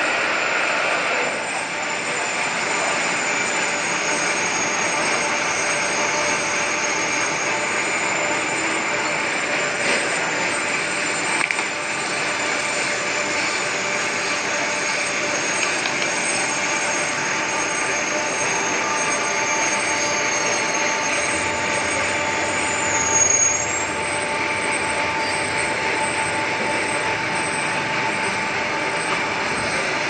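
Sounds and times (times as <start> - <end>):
lathe machining steel with whine: 0.0 - 30.0
rising high tone: 0.0 - 30.0.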